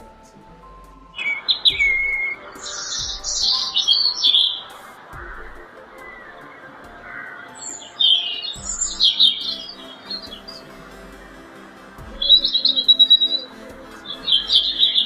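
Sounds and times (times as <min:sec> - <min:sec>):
background music with low beat: 0:00.0 - 0:15.0
birds chirping: 0:00.0 - 0:15.0.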